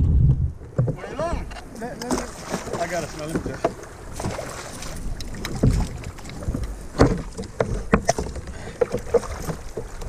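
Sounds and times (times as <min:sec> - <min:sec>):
knocks and thumps on boat: 0:00.0 - 0:10.0
water slapping against kayak hull: 0:00.6 - 0:10.0.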